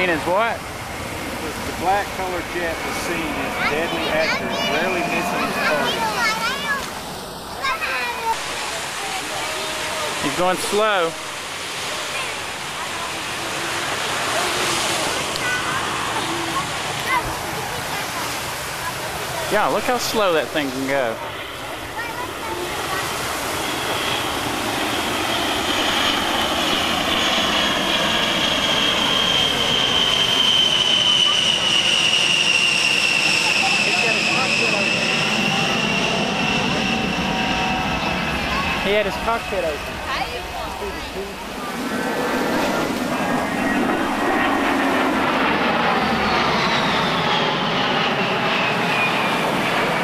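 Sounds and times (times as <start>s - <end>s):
jet engines whistling: 0.0s - 50.0s
rushing jet noise: 0.0s - 50.0s.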